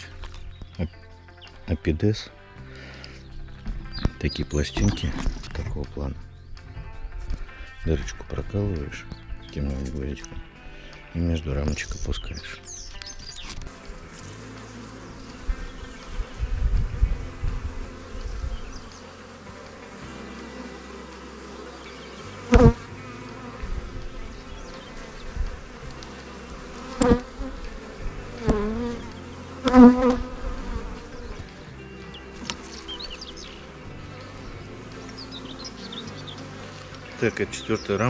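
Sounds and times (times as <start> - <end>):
honeybees buzzing: 0.0 - 38.0.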